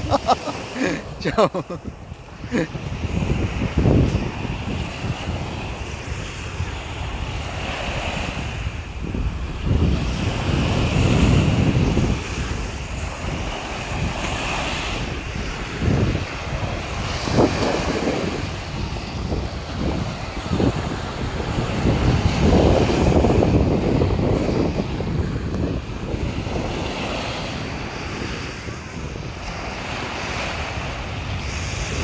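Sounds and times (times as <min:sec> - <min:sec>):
waves washing up shore: 0:00.0 - 0:32.0
wind buffeting microphone: 0:00.0 - 0:32.0.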